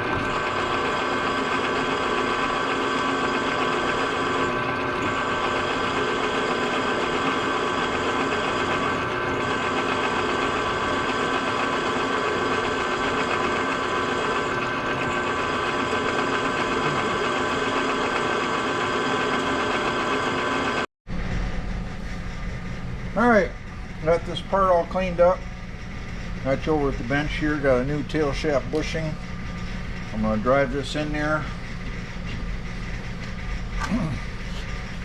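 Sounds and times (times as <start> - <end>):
mill drill spindle whining: 0.0 - 35.0.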